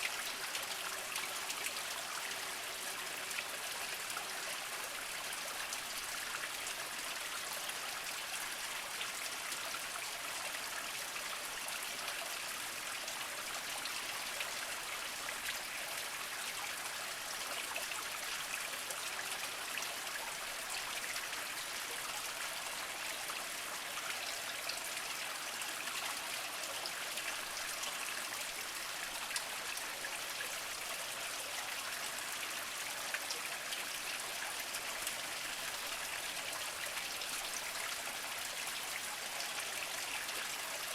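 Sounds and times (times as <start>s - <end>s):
spring water trickling over rocks: 0.0s - 40.9s.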